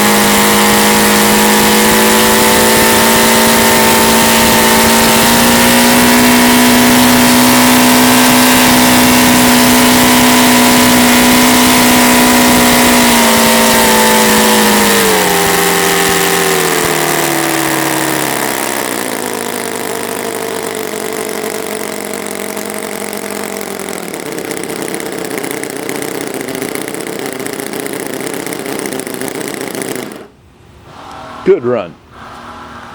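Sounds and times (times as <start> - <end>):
model engine turning a propeller: 0.0 - 30.4.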